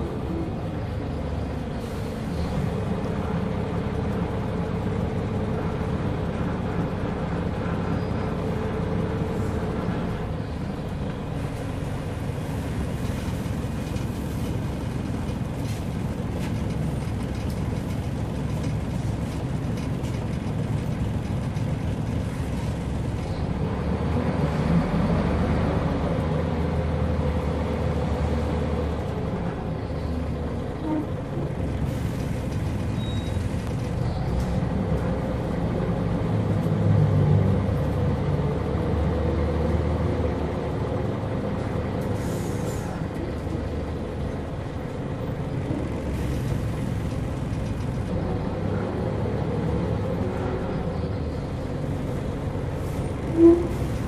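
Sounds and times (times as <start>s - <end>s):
bus engine and gearbox: 0.0s - 54.0s
road and body noise: 0.0s - 54.0s.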